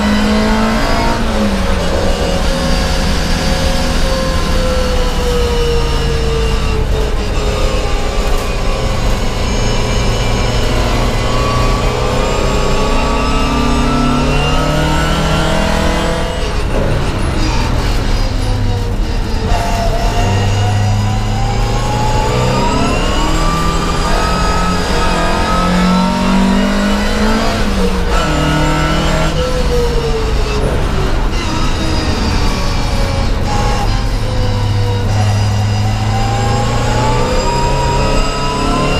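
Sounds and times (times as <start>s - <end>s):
race car engine from inside cabin: 0.0s - 38.9s.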